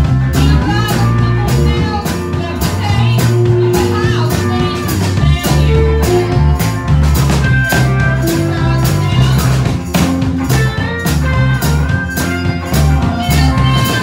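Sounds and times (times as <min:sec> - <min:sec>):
drum kit beat: 0:00.0 - 0:14.0
electric bass: 0:00.0 - 0:14.0
guitar: 0:00.0 - 0:14.0
woman singing: 0:00.2 - 0:06.7, 0:07.6 - 0:09.8, 0:10.5 - 0:14.0.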